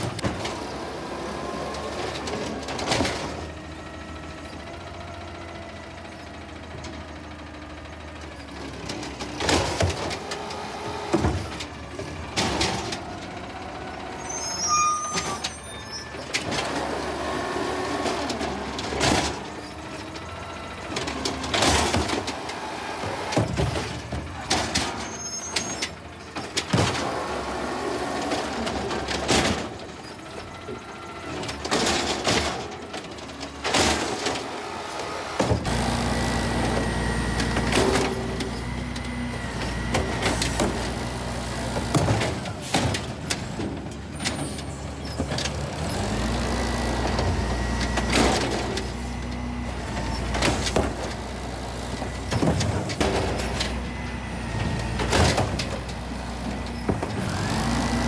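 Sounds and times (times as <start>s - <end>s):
diesel engine running: 0.0s - 58.0s
garbage truck arm clanking bins: 1.6s - 58.0s.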